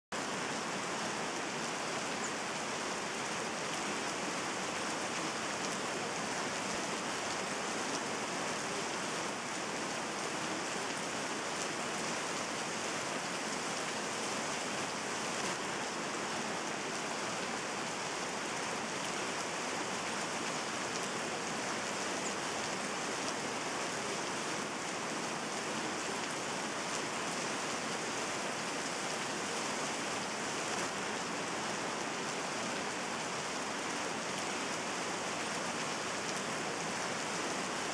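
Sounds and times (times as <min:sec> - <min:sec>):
steady rain: 0:00.1 - 0:37.9.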